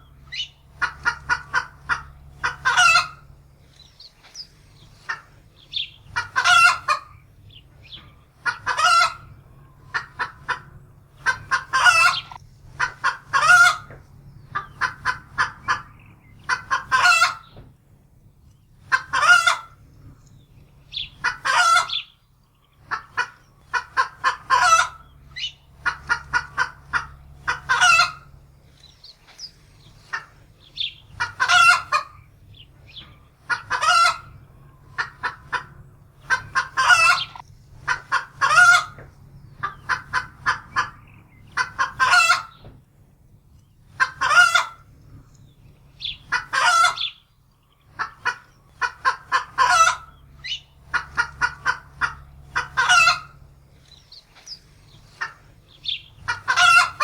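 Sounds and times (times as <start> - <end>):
hen cackling and squawking: 0.0 - 17.6, 18.7 - 42.7, 43.8 - 57.0.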